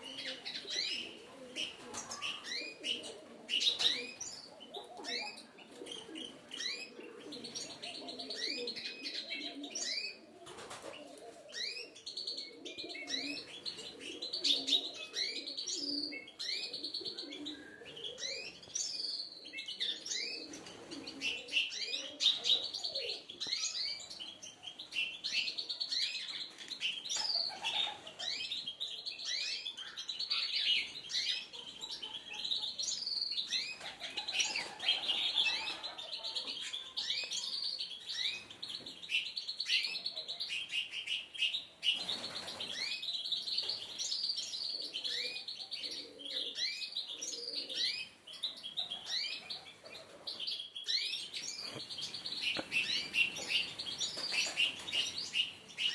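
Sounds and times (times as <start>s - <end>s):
songbirds chirping and twittering: 0.0s - 55.9s.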